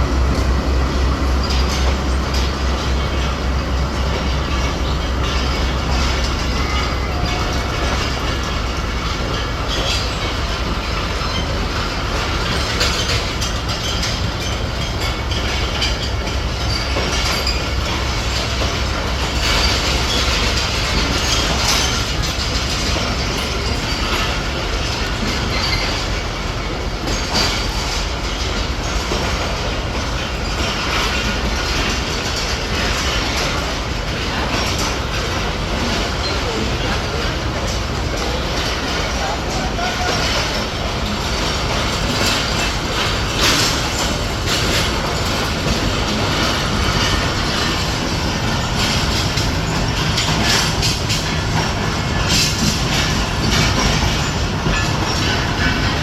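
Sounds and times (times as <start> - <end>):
railcar rumbling: 0.0 - 56.0
wheels clicking over rail joints: 0.0 - 56.0.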